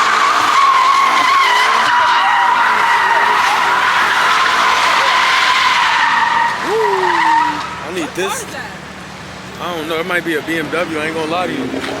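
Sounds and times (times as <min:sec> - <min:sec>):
car tyres squealing: 0:00.0 - 0:12.0.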